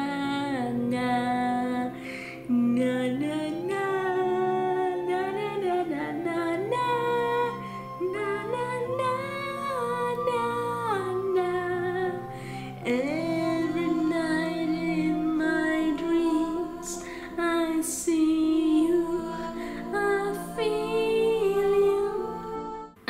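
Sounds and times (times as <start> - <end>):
soft low accompaniment: 0.0 - 23.0
woman singing wordless melody: 0.0 - 23.0.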